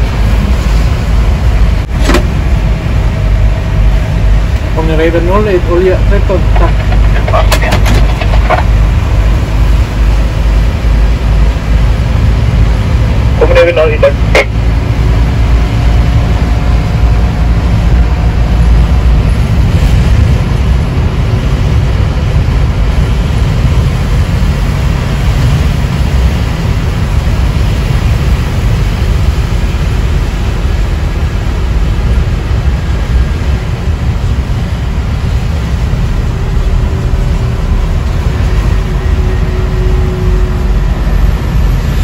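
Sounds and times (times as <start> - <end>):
vehicle rumble and tyre hiss on wet road: 0.0 - 42.0.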